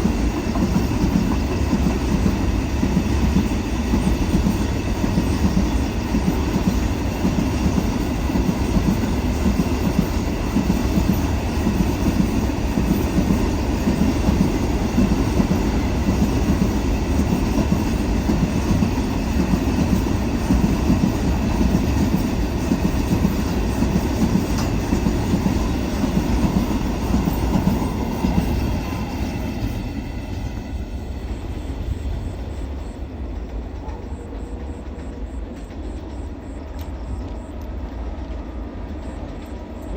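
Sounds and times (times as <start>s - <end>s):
train wheels rumbling and clacking: 0.0s - 39.9s.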